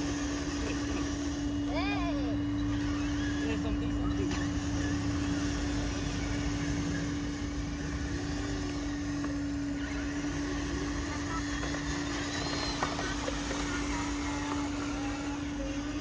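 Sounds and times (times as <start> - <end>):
rc truck motor whining: 0.0 - 16.0.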